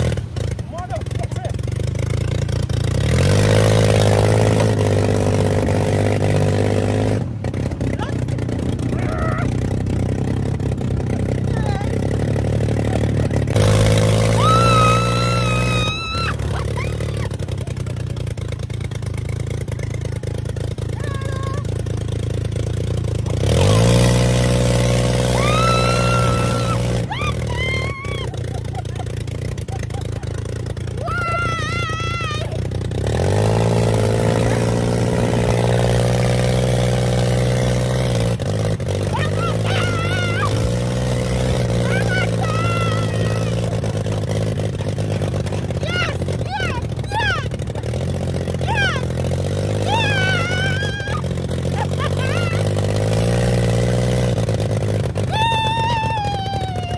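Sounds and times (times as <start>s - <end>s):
motorbike engine ticking: 0.0s - 6.2s, 7.2s - 24.5s, 25.4s - 56.9s.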